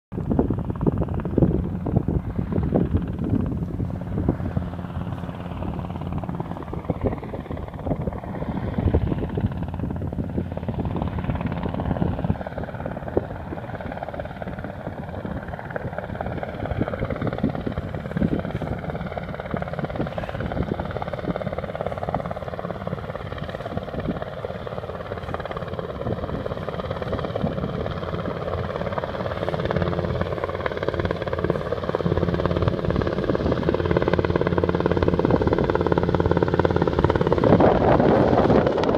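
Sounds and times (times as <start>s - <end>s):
helicopter rotor beating: 0.1s - 38.9s.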